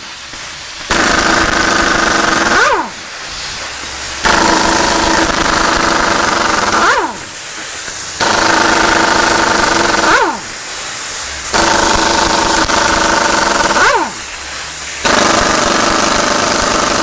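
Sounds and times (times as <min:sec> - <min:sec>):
air impact wrench hammering: 0:00.0 - 0:17.0.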